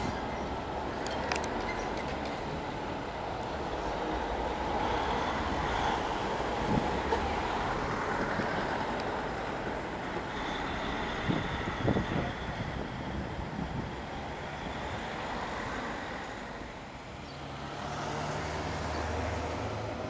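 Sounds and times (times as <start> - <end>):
street traffic: 0.0 - 20.0
truck engine and tyres rumbling: 0.0 - 20.0.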